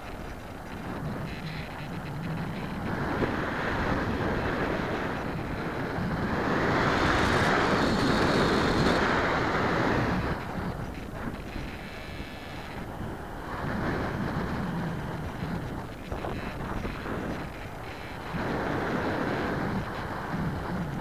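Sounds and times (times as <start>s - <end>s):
airflow rushing over microphone: 0.0s - 21.0s.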